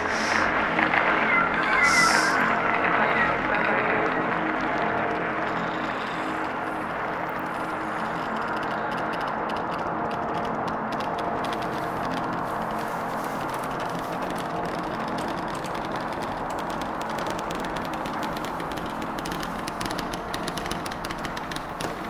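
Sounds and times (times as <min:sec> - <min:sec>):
electronic noise drone: 0:00.0 - 0:22.0
fine crackling clicks: 0:00.0 - 0:22.0.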